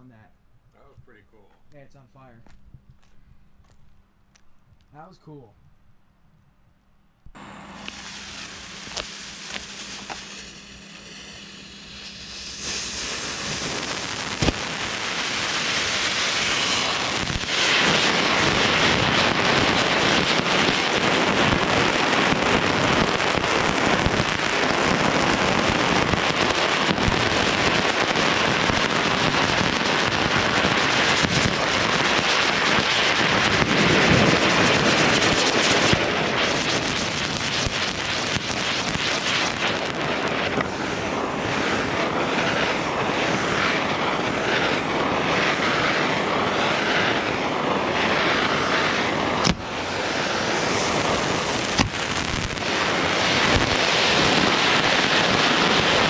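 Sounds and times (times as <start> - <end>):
fountain firework crackling hiss: 7.4 - 56.0.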